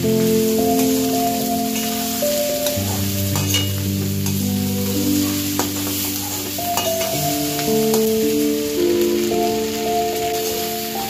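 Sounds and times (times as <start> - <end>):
food sizzling in wok: 0.0 - 11.0
soft instrumental music: 0.0 - 11.0.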